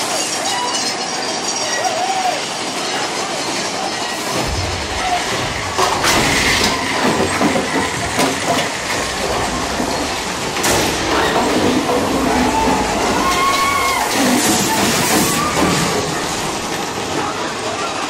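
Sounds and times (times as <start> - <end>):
roller coaster cars clattering: 0.0 - 18.0.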